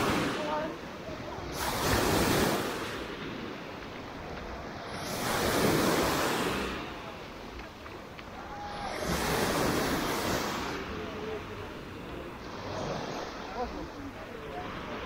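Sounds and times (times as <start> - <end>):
surf breaking on sand shore: 0.0 - 15.0.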